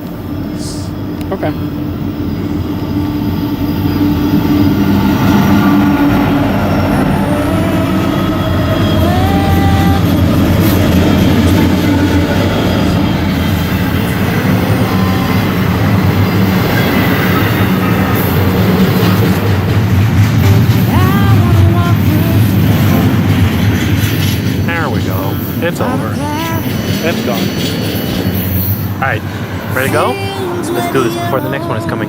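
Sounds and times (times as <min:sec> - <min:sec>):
train rumbling over rails: 0:00.0 - 0:32.0.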